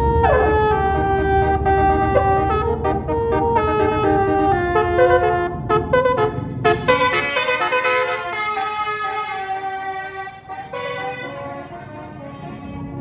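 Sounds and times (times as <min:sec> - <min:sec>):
bus horn playing a melody: 0:00.0 - 0:13.0.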